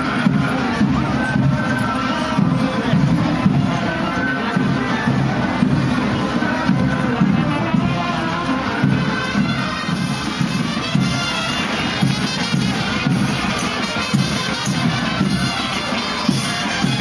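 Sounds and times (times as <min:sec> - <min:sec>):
live folk band music: 0:00.0 - 0:17.0
murmur of outdoor crowd: 0:00.0 - 0:17.0.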